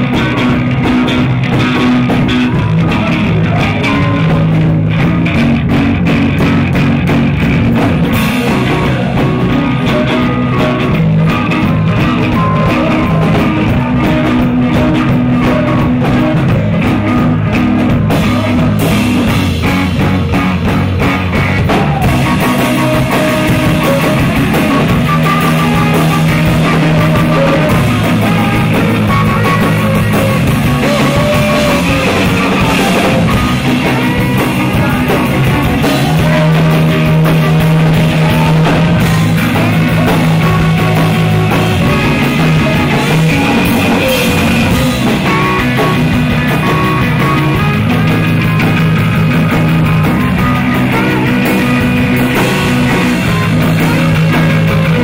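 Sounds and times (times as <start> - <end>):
drum kit with cymbals: 0.0 - 55.0
electric guitar: 0.0 - 55.0.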